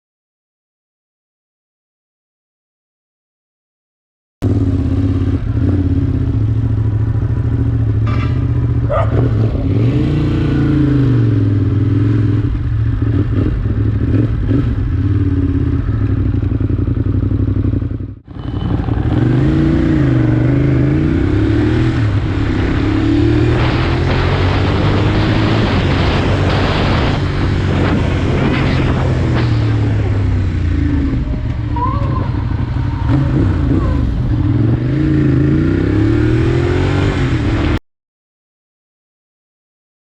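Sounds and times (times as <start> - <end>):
vehicle engine revving: 4.4 - 37.8.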